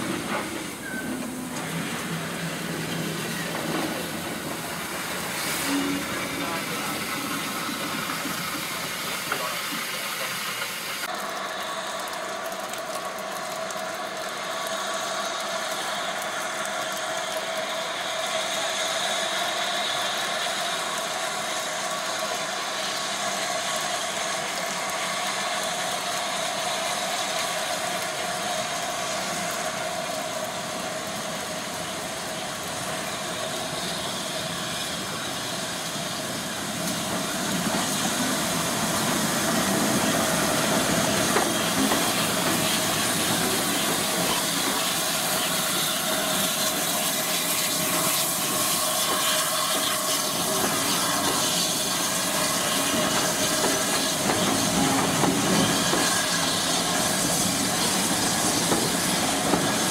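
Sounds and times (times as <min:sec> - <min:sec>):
steam locomotives hissing: 0:00.0 - 0:12.0, 0:14.5 - 0:59.9.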